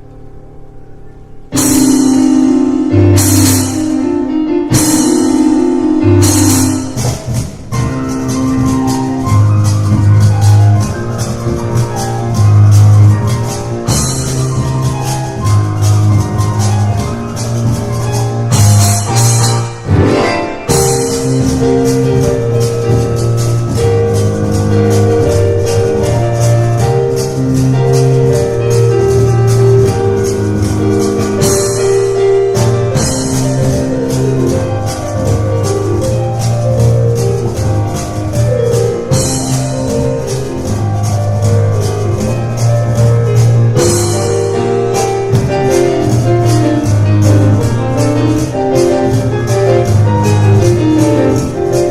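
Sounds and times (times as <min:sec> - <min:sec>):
piano chords and runs: 0:00.0 - 0:51.9
rapid cajon strikes: 0:01.2 - 0:51.9.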